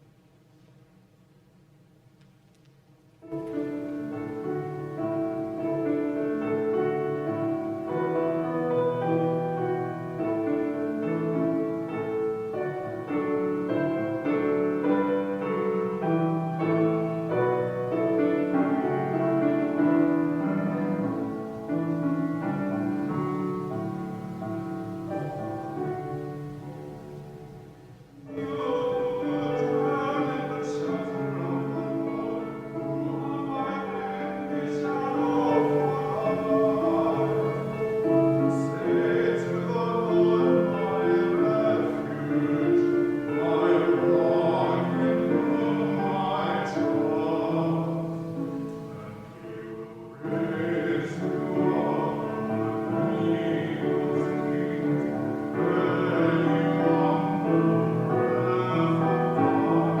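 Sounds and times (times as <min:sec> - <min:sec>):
person singing classical music: 0:00.0 - 1:00.0
keyboard accompaniment: 0:02.6 - 1:00.0.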